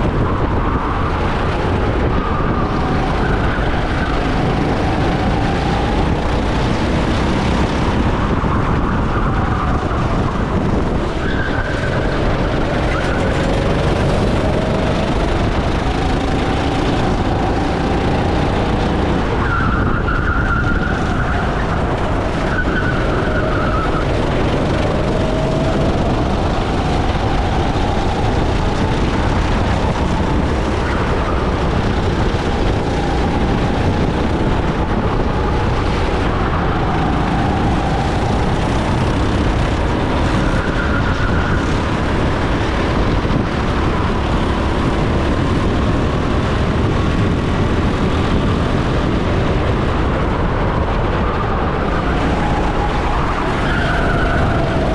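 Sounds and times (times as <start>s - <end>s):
go-kart engine running: 0.0s - 54.9s.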